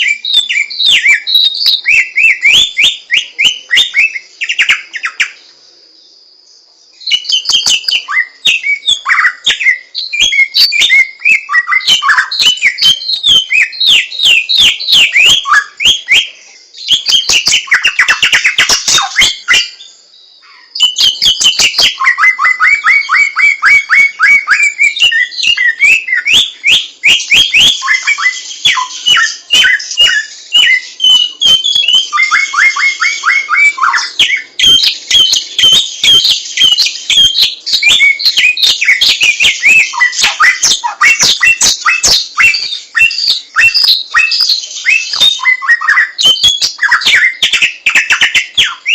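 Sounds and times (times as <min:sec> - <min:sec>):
bird singing: 0:00.0 - 0:48.9.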